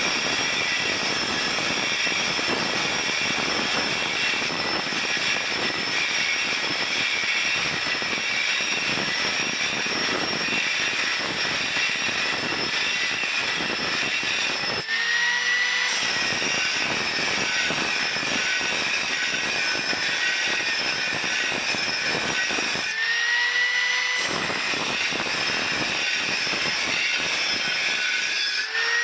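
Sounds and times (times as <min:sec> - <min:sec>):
angle grinder grinding steel: 0:00.0 - 0:29.0
grinder spinning free whine: 0:00.0 - 0:29.0.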